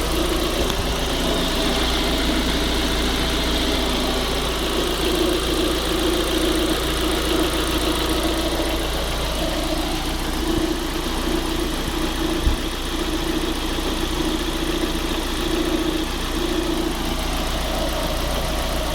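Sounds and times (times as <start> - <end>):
car engine idling: 0.0 - 18.9
pulsing low tone: 0.0 - 18.9.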